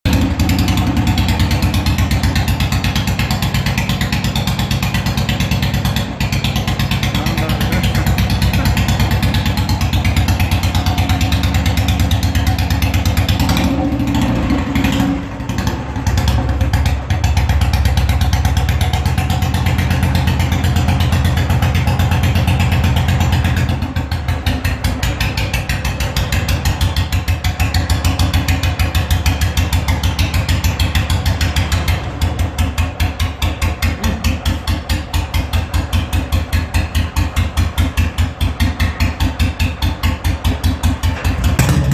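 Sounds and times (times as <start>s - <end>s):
motorcycle engine thumping: 0.1s - 41.9s.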